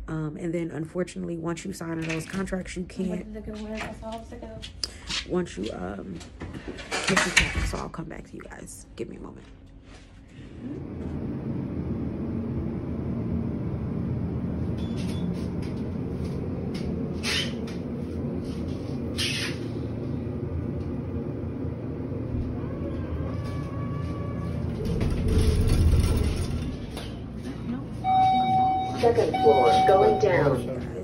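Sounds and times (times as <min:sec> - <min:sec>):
elevator low rumble: 0:05.4 - 0:31.0.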